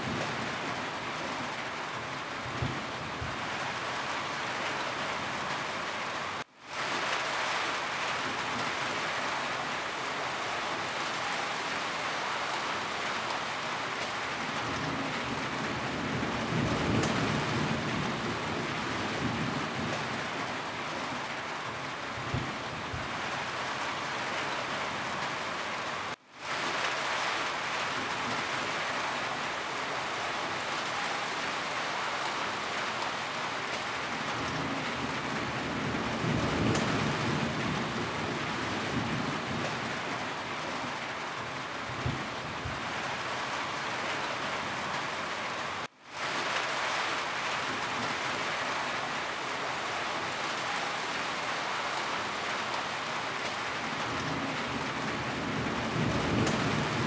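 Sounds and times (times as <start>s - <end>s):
rain on a roof: 0.0s - 57.0s.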